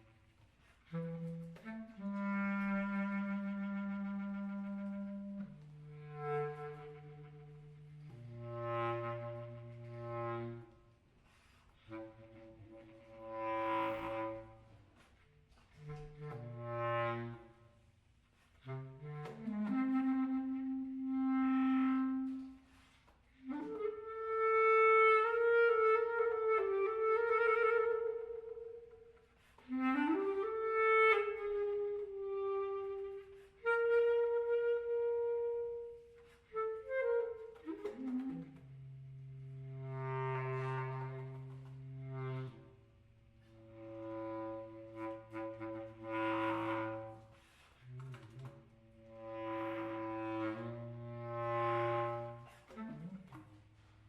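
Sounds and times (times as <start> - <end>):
solo clarinet: 0.0 - 54.0.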